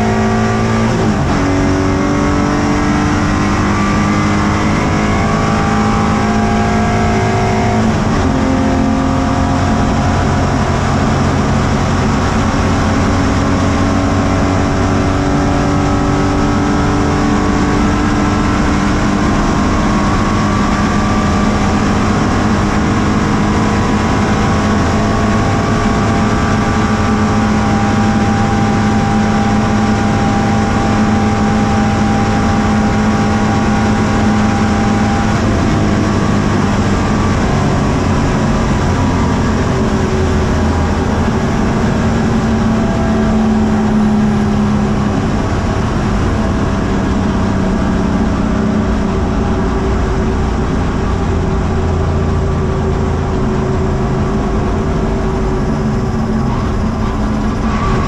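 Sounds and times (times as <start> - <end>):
race truck engine from inside cab: 0.0 - 58.0
wind noise: 0.0 - 58.0.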